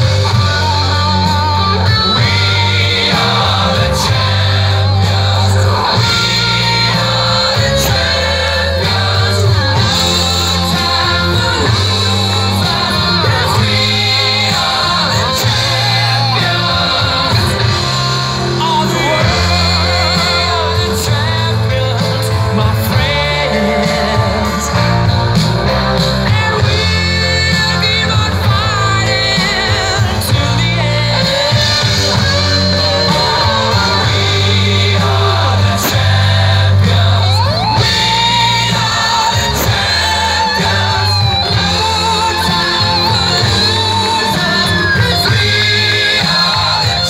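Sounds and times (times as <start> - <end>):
person singing: 0.0 - 47.0
stepping bass line: 0.0 - 47.0.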